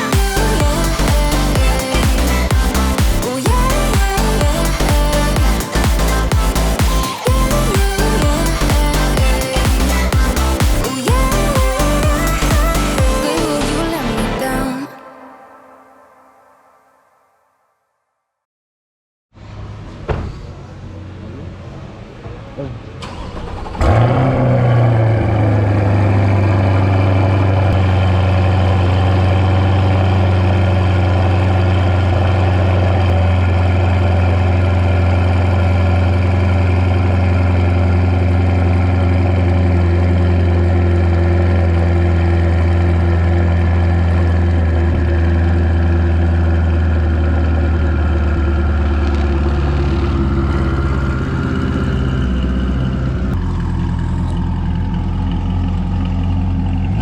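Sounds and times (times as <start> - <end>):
car engine idling: 0.0 - 14.4, 22.9 - 57.0.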